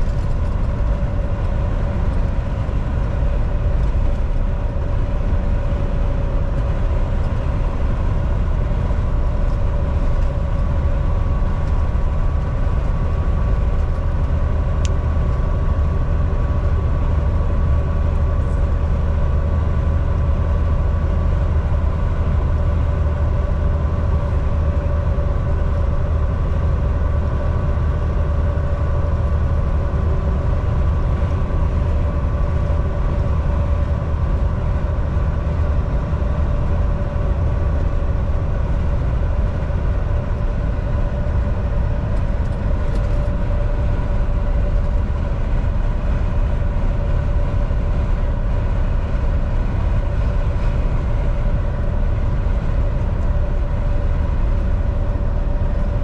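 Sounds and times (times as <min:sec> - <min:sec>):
road rumble: 0:00.0 - 0:56.0
truck diesel engine drone: 0:00.0 - 0:56.0.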